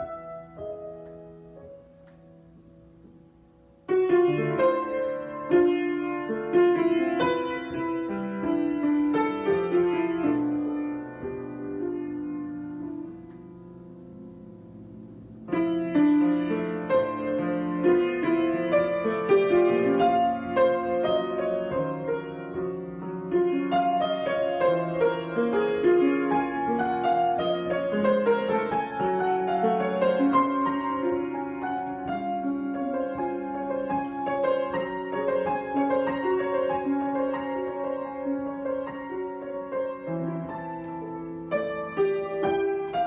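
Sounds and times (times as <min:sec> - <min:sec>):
solo piano improvisation: 0:00.0 - 0:43.0.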